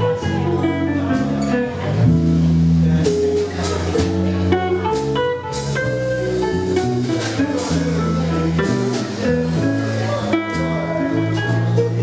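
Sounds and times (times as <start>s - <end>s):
bass: 0.0s - 12.0s
drums: 0.0s - 12.0s
jazz guitar: 0.0s - 12.0s.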